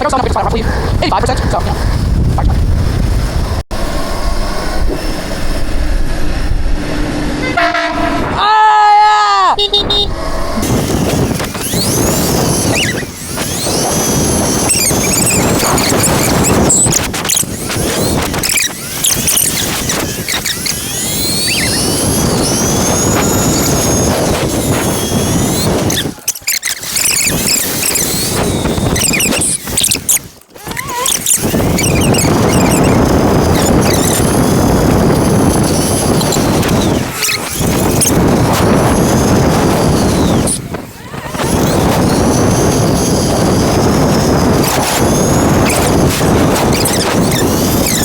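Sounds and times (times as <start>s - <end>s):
rushing wind: 0.0s - 48.0s
electric motor whine: 0.6s - 8.3s, 9.6s - 48.0s
tyre noise: 8.3s - 48.0s.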